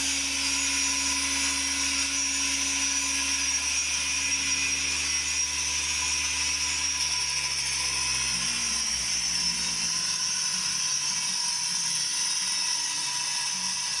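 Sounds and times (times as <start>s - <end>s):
circular saw running: 0.0s - 14.0s.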